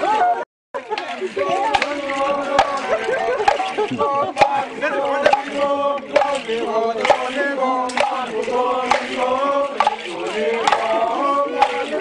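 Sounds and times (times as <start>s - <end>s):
group chanting in unison: 1.5s - 12.0s
sharp percussive beat: 1.5s - 12.0s.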